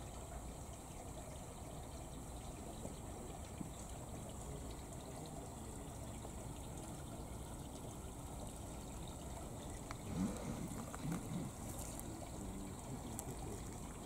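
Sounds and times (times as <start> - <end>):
water trickling into stream: 0.0 - 14.0.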